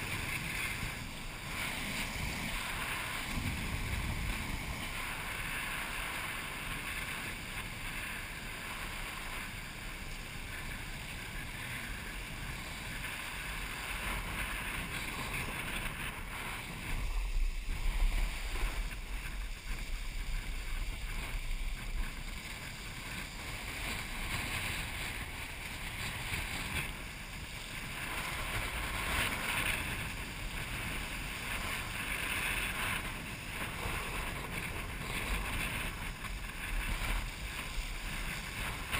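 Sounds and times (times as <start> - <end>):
water rushing past kiteboard: 0.0 - 38.9
wind buffeting microphone: 0.0 - 38.9.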